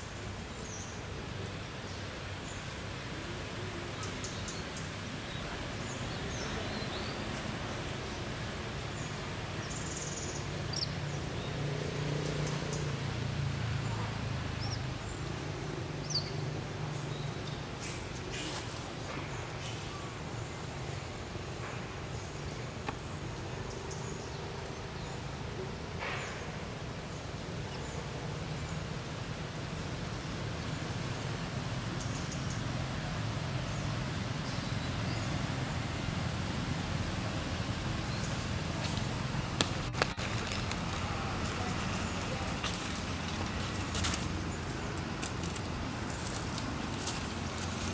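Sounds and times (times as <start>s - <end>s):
low outdoor rumble: 0.0s - 47.9s.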